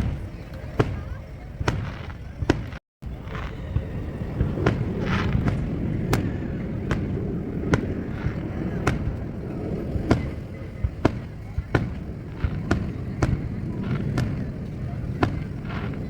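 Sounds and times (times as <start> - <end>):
fireworks bangs: 0.0 - 16.0
low rumble: 1.6 - 16.0.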